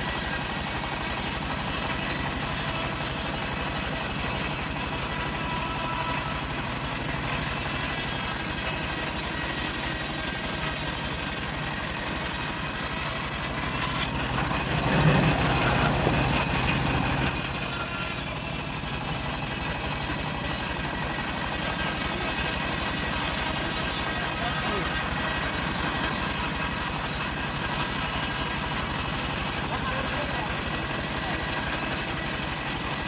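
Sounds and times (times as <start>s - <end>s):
small engine running: 0.0s - 33.0s.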